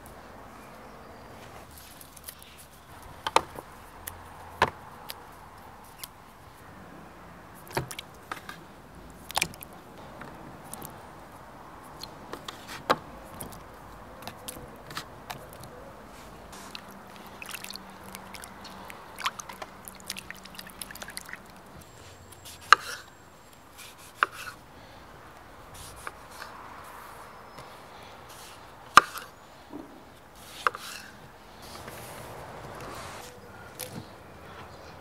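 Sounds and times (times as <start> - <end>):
faint steady background noise: 0.0 - 35.0.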